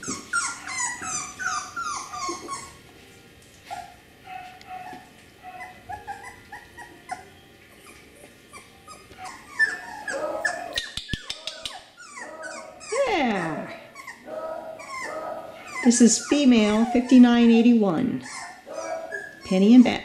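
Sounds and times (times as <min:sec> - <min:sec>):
puppies whining: 0:00.0 - 0:20.0.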